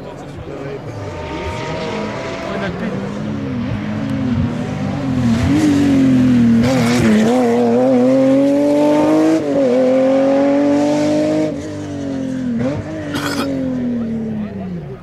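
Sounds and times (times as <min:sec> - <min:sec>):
rally car engine at high revs: 0:00.6 - 0:15.0.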